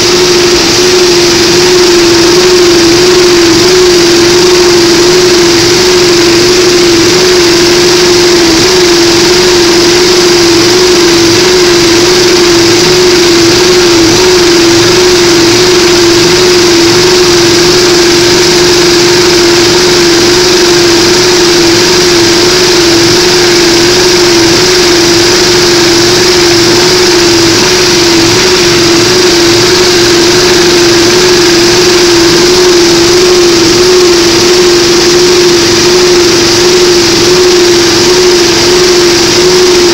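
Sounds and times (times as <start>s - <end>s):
mechanical noise: 0.0s - 39.9s
motor whine: 0.0s - 39.9s.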